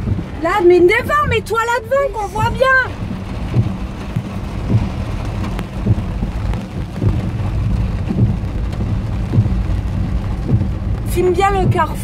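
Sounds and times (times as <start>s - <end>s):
car driving on wet road: 0.0s - 12.0s
heavy rain on a car: 0.0s - 12.0s
windshield wipers knocking: 0.0s - 12.0s.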